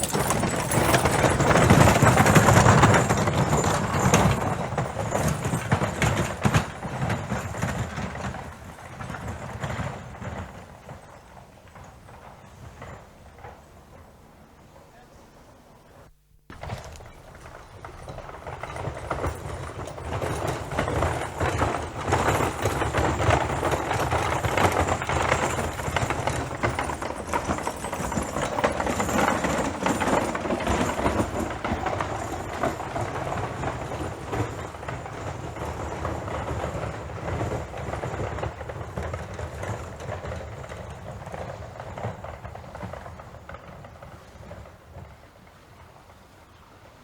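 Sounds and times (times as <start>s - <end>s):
horse hooves clattering: 0.0s - 14.7s, 16.5s - 46.8s.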